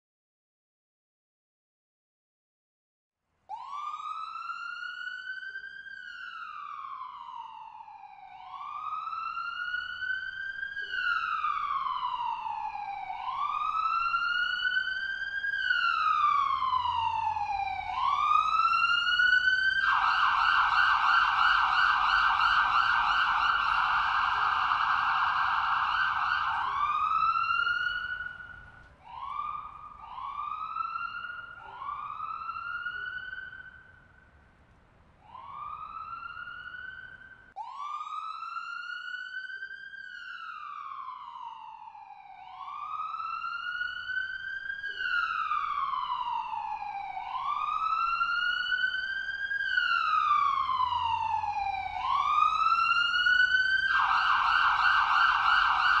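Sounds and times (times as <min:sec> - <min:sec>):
ambulance siren: 0:03.5 - 0:34.4, 0:35.2 - 0:56.0.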